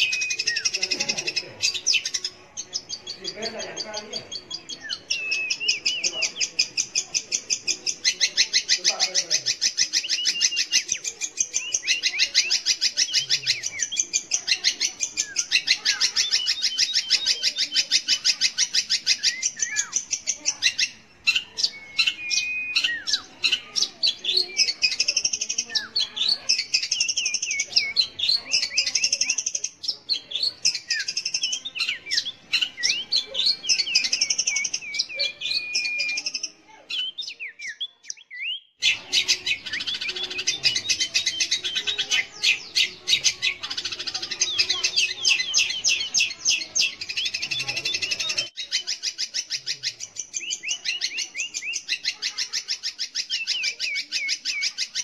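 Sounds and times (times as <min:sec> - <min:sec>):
shrike singing: 0:00.0 - 0:55.0.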